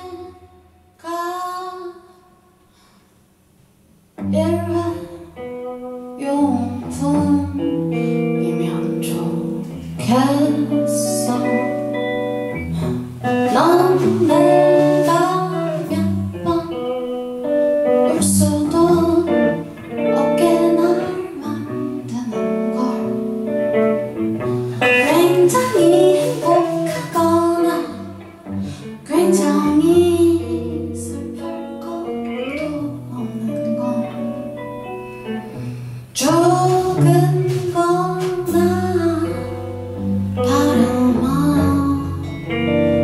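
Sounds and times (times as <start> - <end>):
woman singing: 0.0 - 2.2, 4.2 - 23.8, 24.8 - 35.5, 36.1 - 43.0
acoustic guitar strumming: 7.7 - 43.0.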